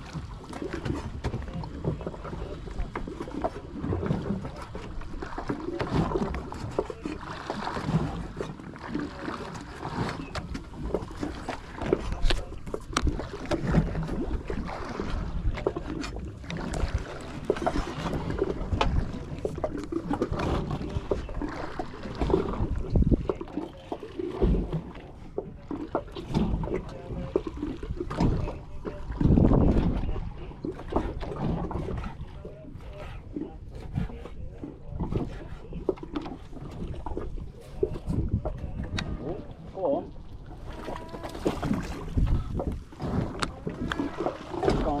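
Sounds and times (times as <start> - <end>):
water lapping against boat hull: 0.0 - 45.0.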